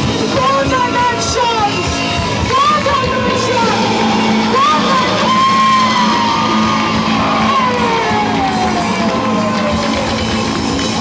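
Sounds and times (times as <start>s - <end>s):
rock band playing loud: 0.0s - 11.0s.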